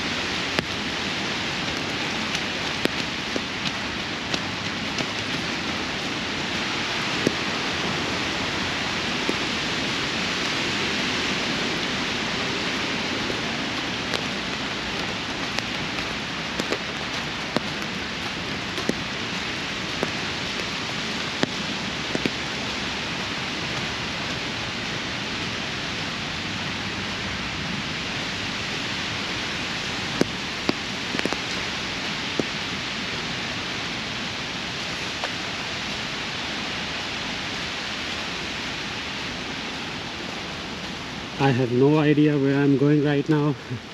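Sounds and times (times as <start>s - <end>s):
raindrops ticking nearby: 0.0s - 43.9s
steady rainfall: 0.0s - 43.9s.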